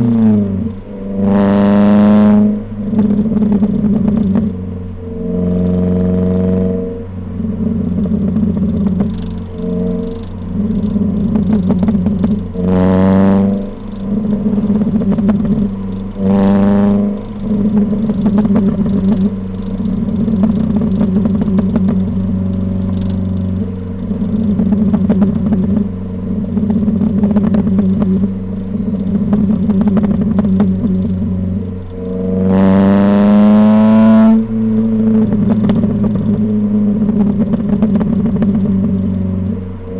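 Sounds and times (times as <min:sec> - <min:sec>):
car engine through exhaust: 0:00.0 - 0:39.9.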